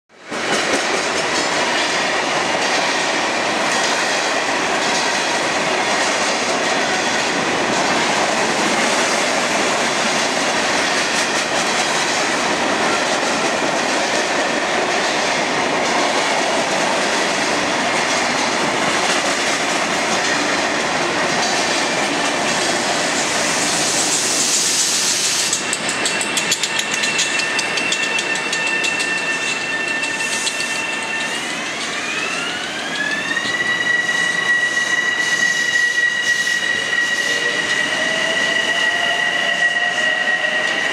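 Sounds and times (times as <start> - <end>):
clickety-clack over rail joints: 0.1 - 33.6
freight train wheel and rail rumble: 0.1 - 40.9
electric train high whine: 0.9 - 40.9.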